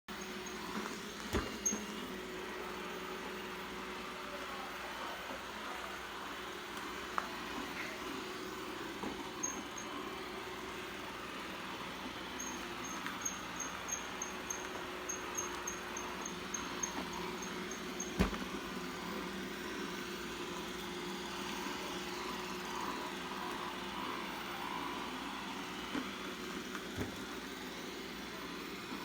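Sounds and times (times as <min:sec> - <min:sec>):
robot vacuum motor hum: 0:05.4 - 0:29.0.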